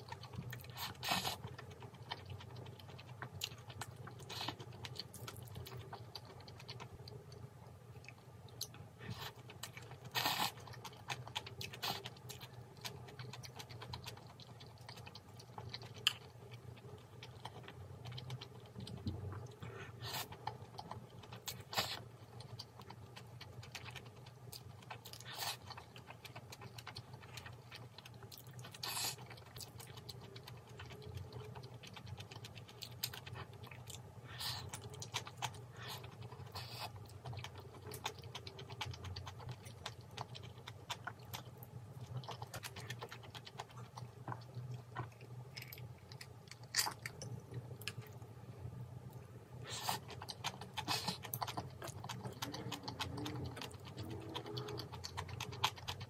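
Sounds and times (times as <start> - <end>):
close chewing: 0.0 - 48.2, 49.6 - 56.0.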